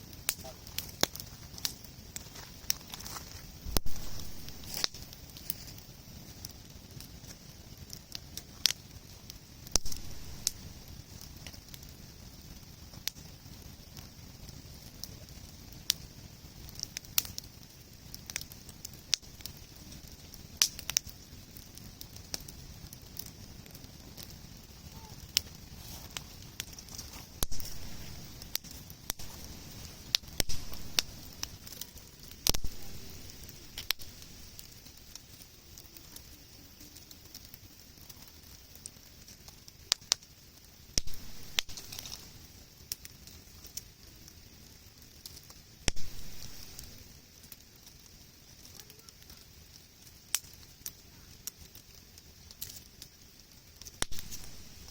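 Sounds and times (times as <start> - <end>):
campfire crackling and snapping: 0.0 - 54.9.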